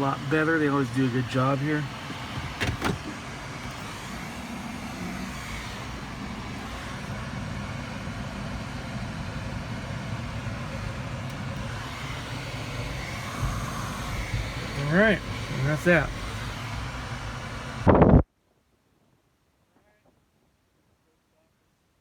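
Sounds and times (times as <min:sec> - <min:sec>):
car engine humming: 0:00.0 - 0:18.2.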